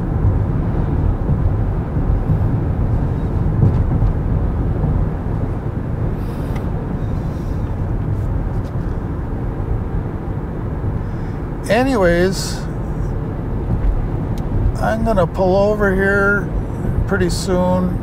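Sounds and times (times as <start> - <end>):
car tyre and wind noise: 0.0 - 18.0.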